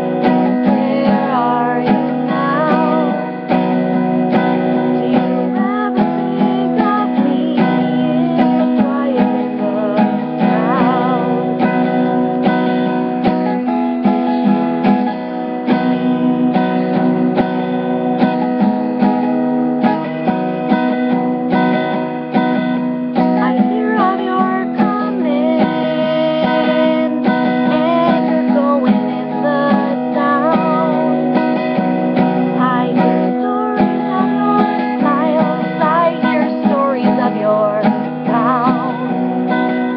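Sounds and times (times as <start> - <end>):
acoustic guitar strumming: 0.0 - 39.9
woman singing: 0.0 - 39.9.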